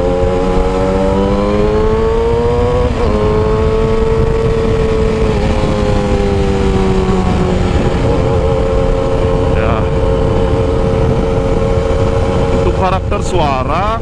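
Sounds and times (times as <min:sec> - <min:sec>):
motorcycle engine accelerating: 0:00.0 - 0:14.0
wind noise: 0:00.0 - 0:14.0.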